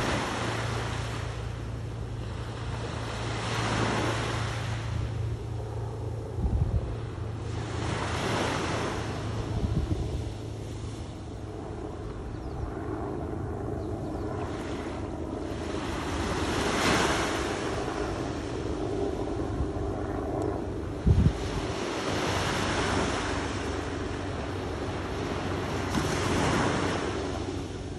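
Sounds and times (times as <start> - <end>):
waves washing onto beach: 0.0 - 6.4, 7.2 - 11.9, 14.6 - 19.8, 20.7 - 27.9
wind on microphone: 0.0 - 27.9.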